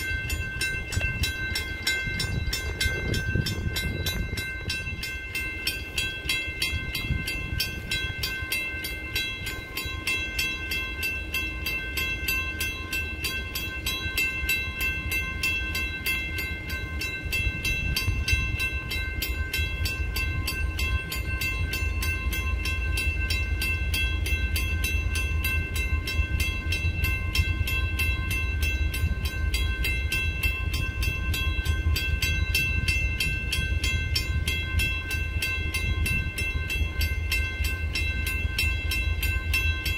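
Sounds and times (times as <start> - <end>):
railroad crossing bell ringing: 0.0 - 39.9.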